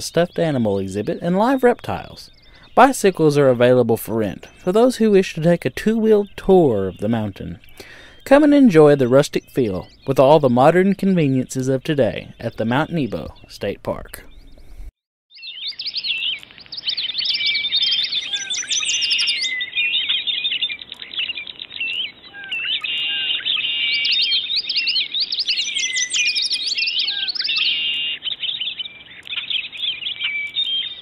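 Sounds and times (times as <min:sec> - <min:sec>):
songbirds chirping and twittering: 0:00.0 - 0:31.0.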